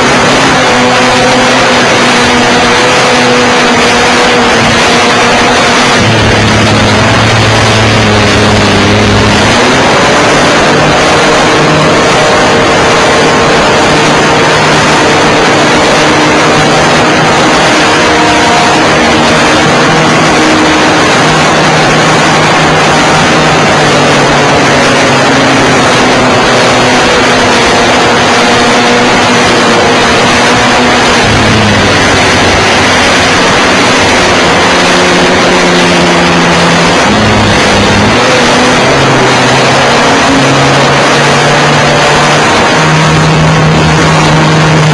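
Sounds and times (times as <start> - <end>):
wind noise: 0.0 - 44.9.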